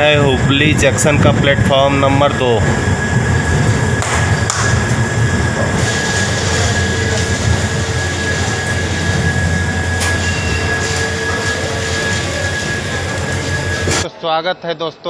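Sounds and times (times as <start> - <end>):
train wheels rumbling on rails: 0.0 - 14.1
thin steady whine: 0.0 - 14.2.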